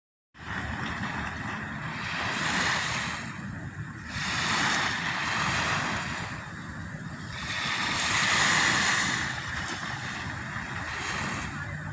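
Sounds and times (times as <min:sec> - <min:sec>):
sea waves washing onto shore: 0:00.4 - 0:11.9
wind rumble on microphone: 0:00.4 - 0:11.9.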